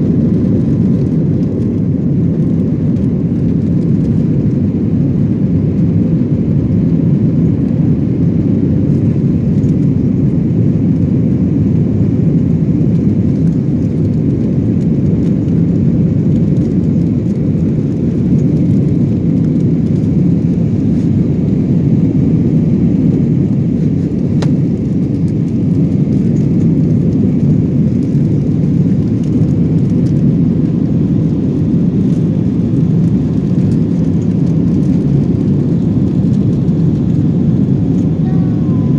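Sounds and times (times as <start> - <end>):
jet engines and airflow roar: 0.0 - 38.9.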